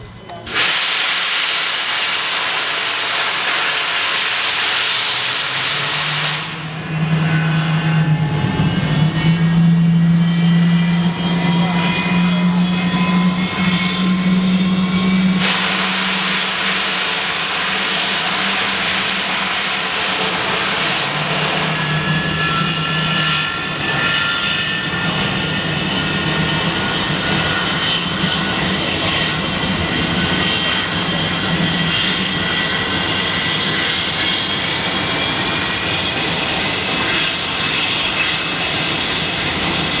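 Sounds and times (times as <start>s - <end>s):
jet engine whine: 0.0s - 40.0s
jet noise rush: 0.5s - 40.0s.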